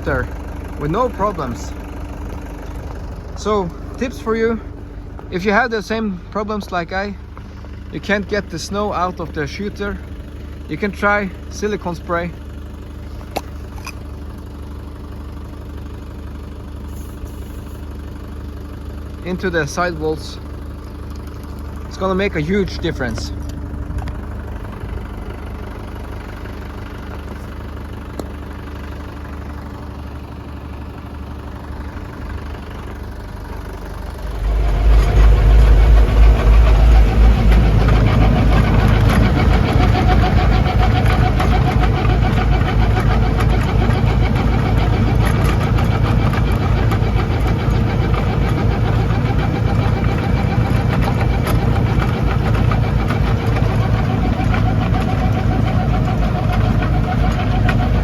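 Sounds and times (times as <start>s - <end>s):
tractor engine revving: 0.0s - 58.0s.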